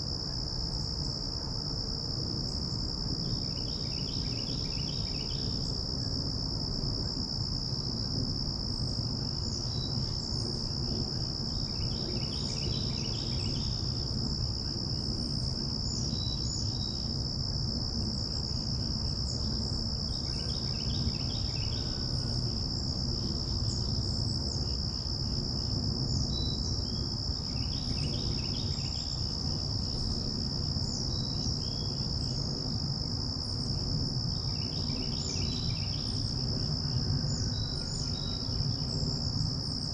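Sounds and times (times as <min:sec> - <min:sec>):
high-pitched insect trill: 0:00.0 - 0:39.9
rapid insect chirping: 0:00.0 - 0:39.9.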